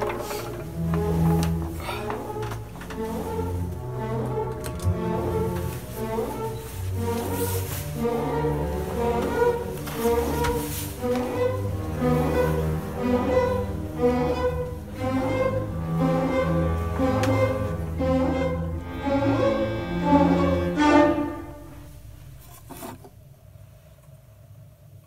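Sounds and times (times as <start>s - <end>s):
orchestral strings over low bass: 0.0s - 23.4s.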